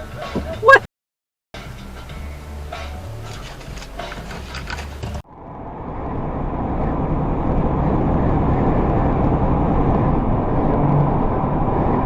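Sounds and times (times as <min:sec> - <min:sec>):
moving car road and engine noise: 0:01.6 - 0:12.0.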